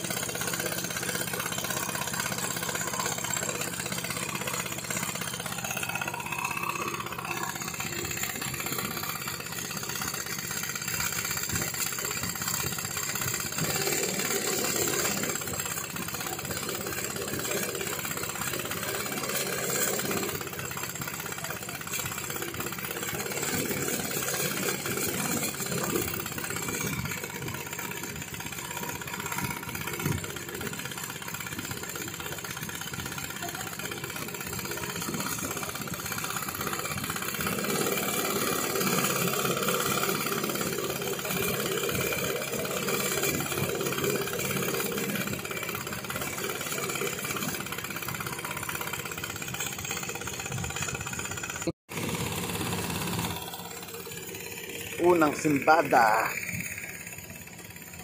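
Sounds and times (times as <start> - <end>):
generator engine running steadily: 0.0 - 58.0.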